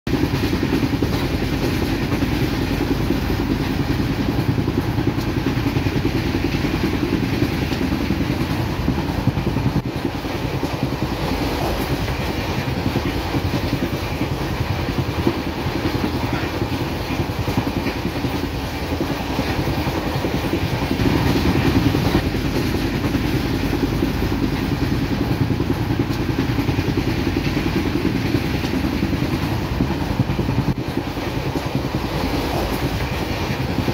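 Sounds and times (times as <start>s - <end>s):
train rumbling on rails: 0.1s - 33.9s.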